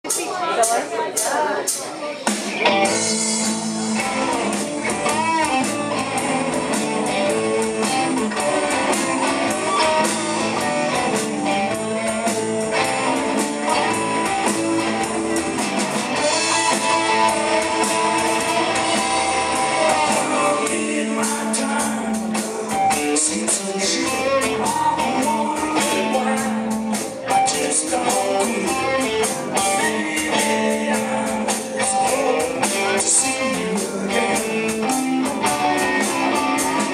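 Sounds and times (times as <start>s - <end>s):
bass guitar: 0.0s - 36.9s
drums: 0.0s - 36.9s
electric guitars: 0.0s - 36.9s.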